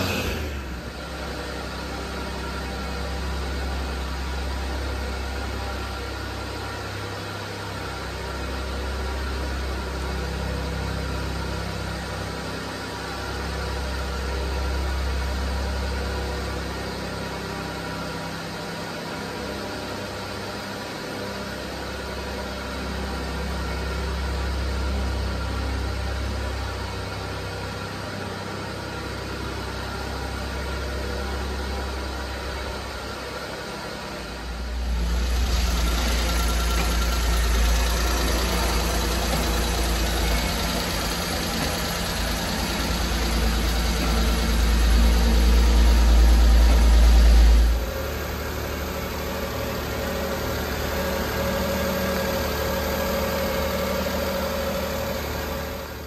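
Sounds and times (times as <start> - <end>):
small truck engine idling: 0.0 - 56.0.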